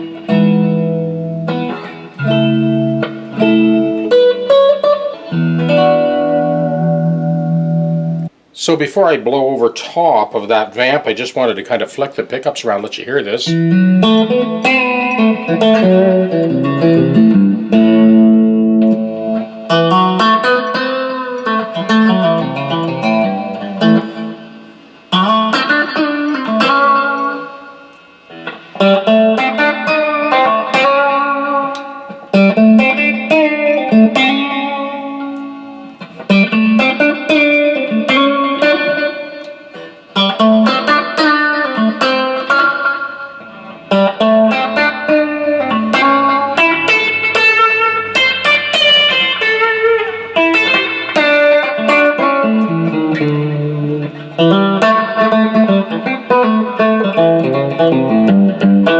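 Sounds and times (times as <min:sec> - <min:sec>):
electric guitar chords: 0:00.0 - 0:08.5, 0:13.4 - 0:58.9.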